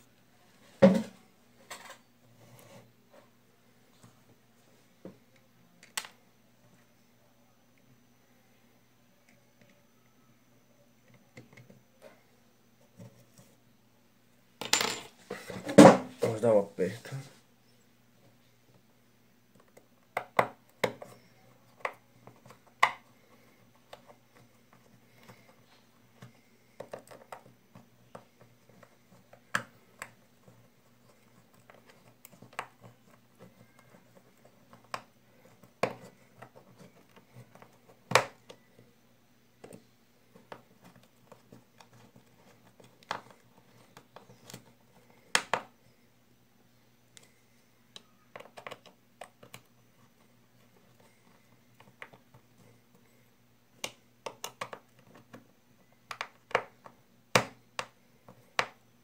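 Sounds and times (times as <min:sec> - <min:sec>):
faint low hum: 0:00.0 - 0:59.0.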